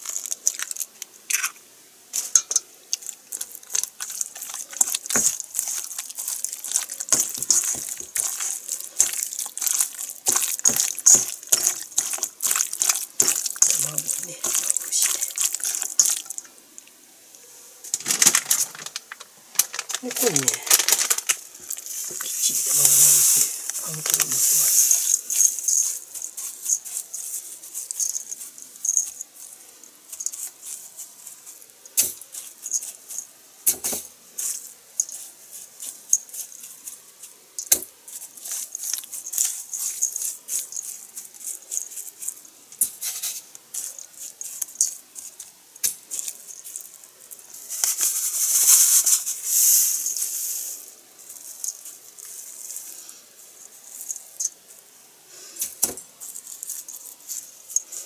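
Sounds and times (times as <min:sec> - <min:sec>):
breadcrumbs rustling and crackling: 0:00.0 - 0:01.5, 0:02.1 - 0:58.0.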